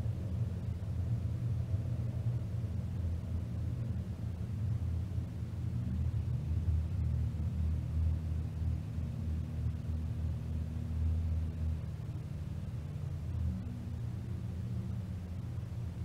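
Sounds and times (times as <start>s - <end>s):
airplane engine idling: 0.0s - 16.0s.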